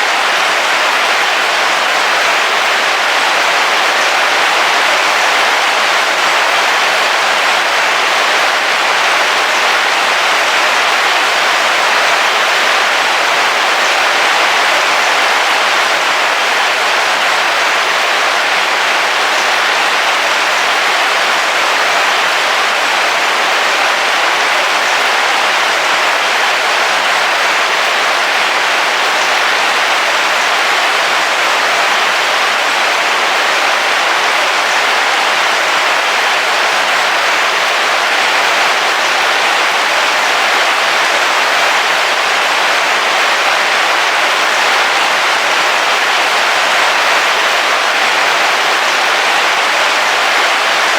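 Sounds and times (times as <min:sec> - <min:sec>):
heavy rain on vehicle roof: 0:00.0 - 0:50.9.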